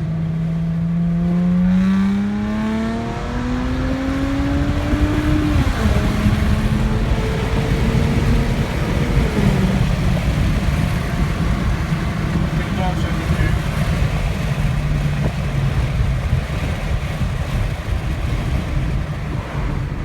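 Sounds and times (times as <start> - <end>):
car exhaust accelerating: 0.0 - 20.0.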